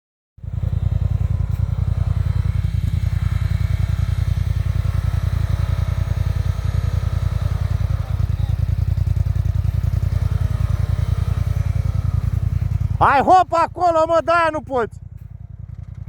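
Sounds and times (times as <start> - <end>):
car engine pulsing rumble: 0.4 - 16.0.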